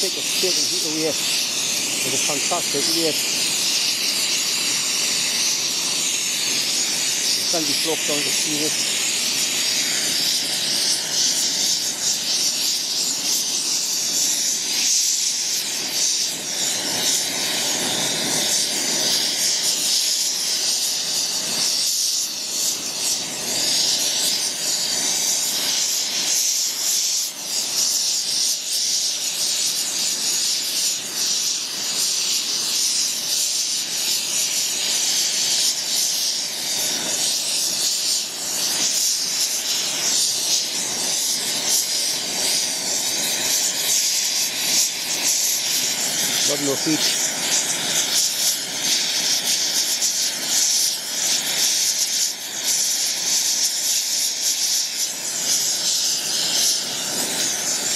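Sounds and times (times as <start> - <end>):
gas torch flame hissing: 0.0 - 57.9.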